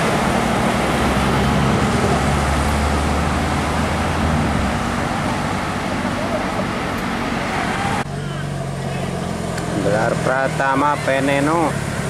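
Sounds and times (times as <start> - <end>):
heavy vehicle engine drone: 0.0 - 12.0
tyre and road noise: 0.0 - 12.0.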